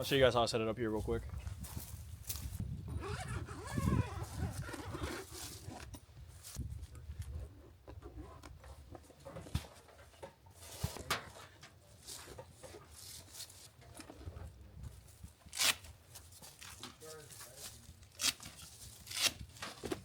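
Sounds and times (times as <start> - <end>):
rustling and handling noise: 0.9 - 20.0.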